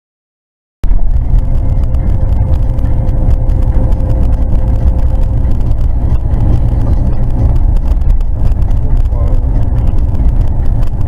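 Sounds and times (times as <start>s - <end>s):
vehicle engine and road noise: 0.8s - 11.0s.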